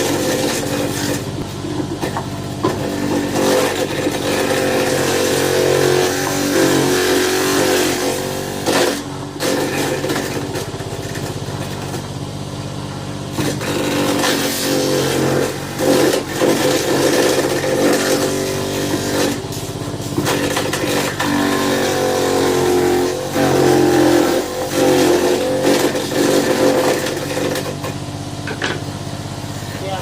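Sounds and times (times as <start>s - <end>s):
fruit-cutting machine whirring: 0.0s - 30.0s.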